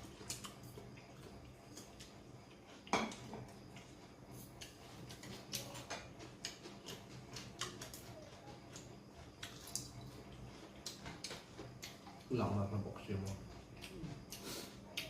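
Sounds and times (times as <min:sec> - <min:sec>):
person chewing: 0:00.0 - 0:12.3, 0:13.2 - 0:15.0.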